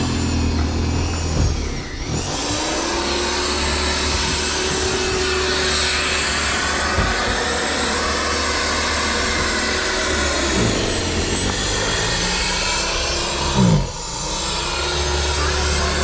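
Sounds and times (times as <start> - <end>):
loud rushing noise: 0.0 - 16.0
motor running: 0.0 - 16.0.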